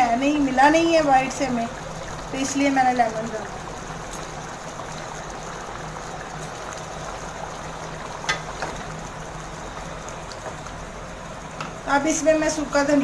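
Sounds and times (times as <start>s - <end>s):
meat sizzling in gravy: 0.2s - 11.9s.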